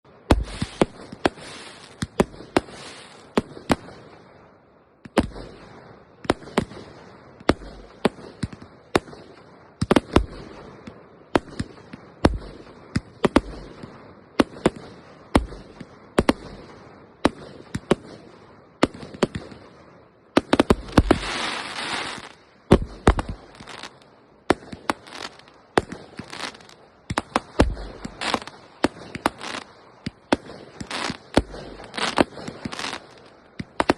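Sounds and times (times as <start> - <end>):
fireworks bursting with bangs: 0.0 - 33.9
hissing crackle of fireworks: 0.0 - 33.9.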